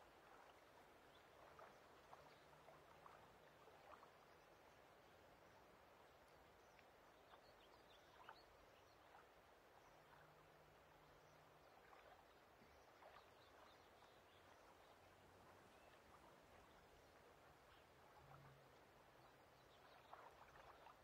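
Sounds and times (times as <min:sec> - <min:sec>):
soft outdoor wash: 0:00.0 - 0:21.0.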